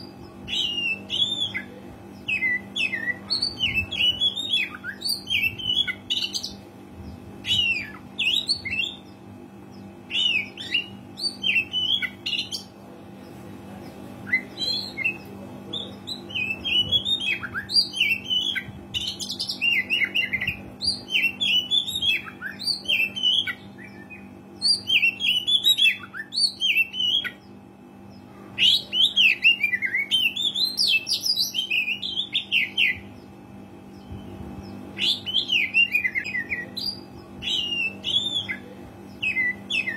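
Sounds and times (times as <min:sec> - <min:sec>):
magpie-robin singing: 0:00.0 - 0:12.7, 0:13.8 - 0:39.9
steady low hum: 0:00.0 - 0:39.9.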